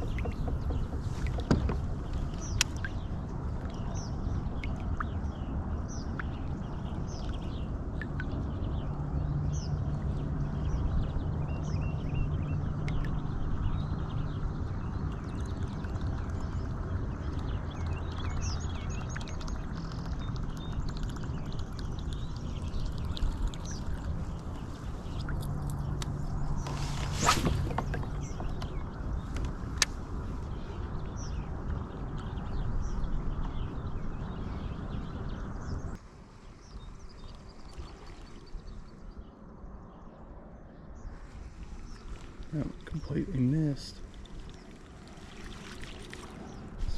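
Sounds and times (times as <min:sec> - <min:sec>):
small birds chirping: 0:00.0 - 0:46.9
steady low rumble: 0:00.0 - 0:46.9.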